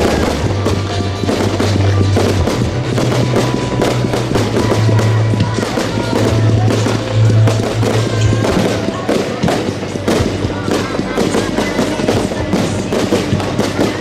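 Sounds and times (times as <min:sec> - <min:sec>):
fireworks cracking and banging: 0:00.0 - 0:14.0
loud music with bass line: 0:00.0 - 0:14.0.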